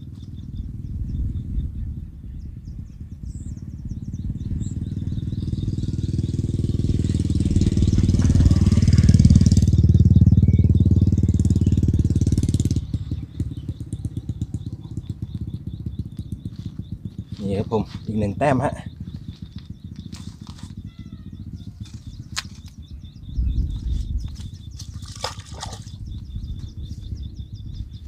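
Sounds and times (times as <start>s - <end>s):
motor engine pulsing: 0.0s - 28.0s.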